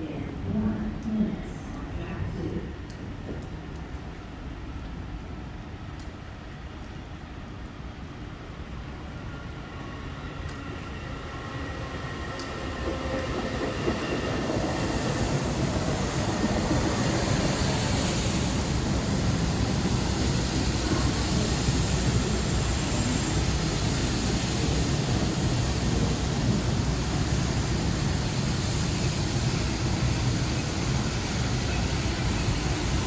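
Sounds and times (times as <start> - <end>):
train rumble and wheel noise: 0.0 - 33.0.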